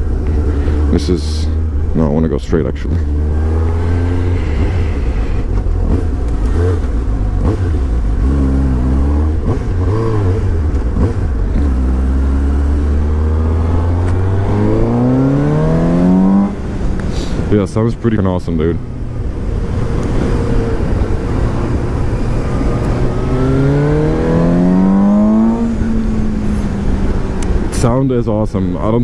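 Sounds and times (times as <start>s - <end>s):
motorcycle engine revving: 2.8s - 17.4s, 18.6s - 27.9s.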